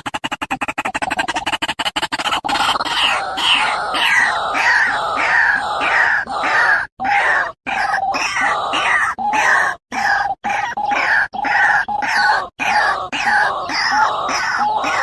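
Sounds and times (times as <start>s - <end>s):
bird calling in harsh cries: 0.3s - 15.0s.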